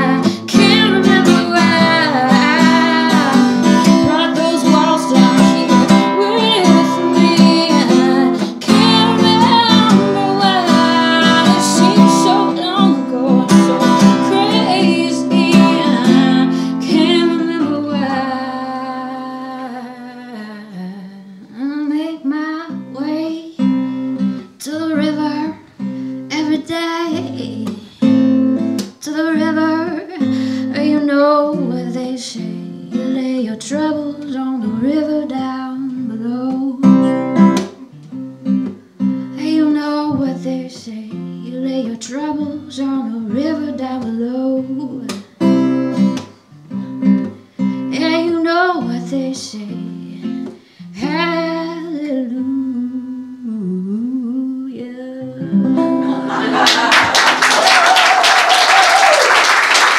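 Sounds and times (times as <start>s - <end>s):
woman singing: 0.0s - 23.7s, 24.4s - 38.0s, 39.3s - 45.4s, 47.8s - 55.8s
acoustic guitar: 0.0s - 57.4s.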